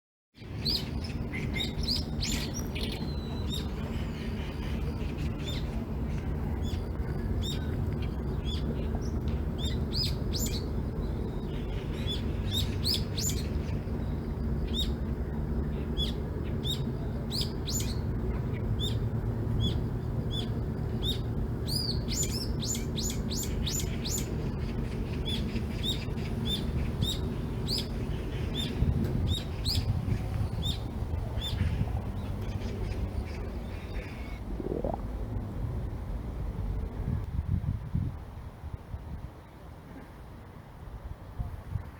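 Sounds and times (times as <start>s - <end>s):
songbirds chirping: 0.4s - 35.1s
steady low rumble: 0.4s - 39.7s.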